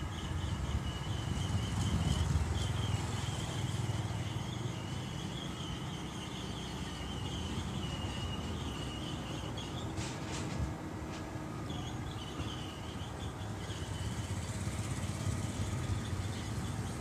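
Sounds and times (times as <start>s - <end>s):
bulldozer diesel engine rumbling: 0.0s - 17.0s.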